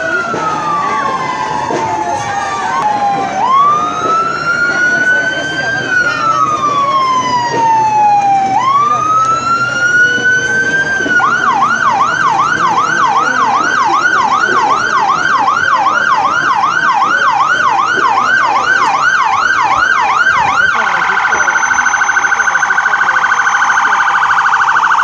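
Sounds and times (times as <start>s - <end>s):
emergency vehicle siren: 0.0s - 25.0s.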